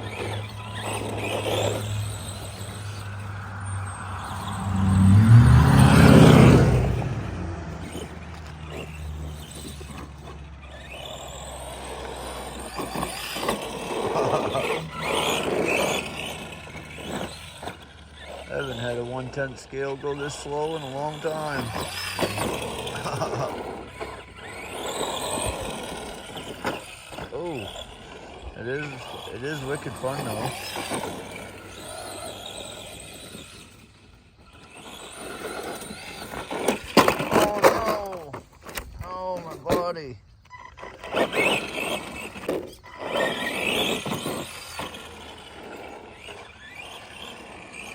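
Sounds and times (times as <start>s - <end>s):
rc truck electric motor running: 0.0s - 47.9s.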